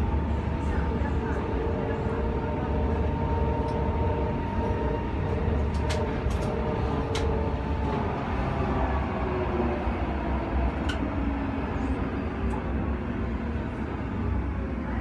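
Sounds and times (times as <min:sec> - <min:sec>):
tram running with electric whine: 0:00.0 - 0:15.0.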